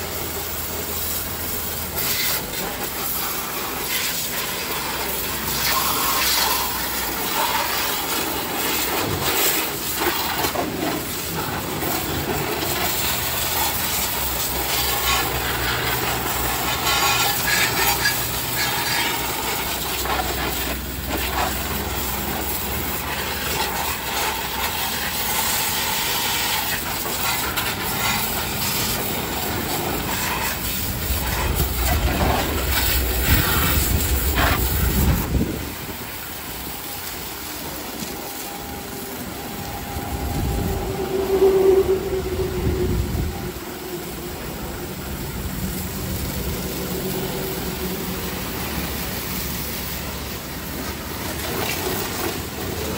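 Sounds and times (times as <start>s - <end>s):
pressure washer spraying water: 0.0s - 52.9s.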